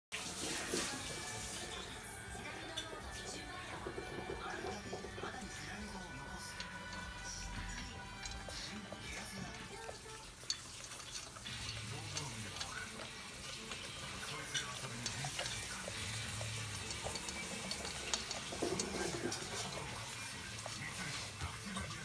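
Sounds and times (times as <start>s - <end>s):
teeth scraping metal bowl: 0.4s - 22.0s
dog crunching food: 4.2s - 22.0s.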